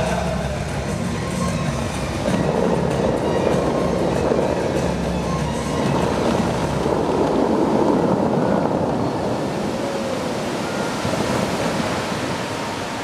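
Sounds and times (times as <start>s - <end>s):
fountain water jets splashing: 0.0s - 13.0s.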